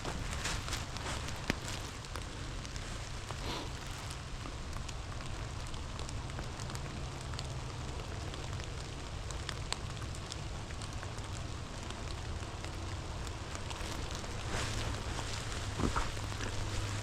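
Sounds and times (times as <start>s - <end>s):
raindrops ticking: 0.0s - 17.0s
steady rain: 0.0s - 17.0s.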